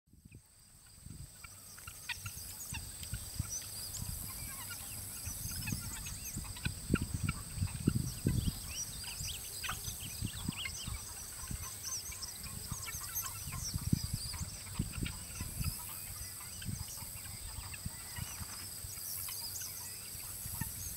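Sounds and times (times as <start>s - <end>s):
poultry chirping and peeping: 0.2s - 20.9s.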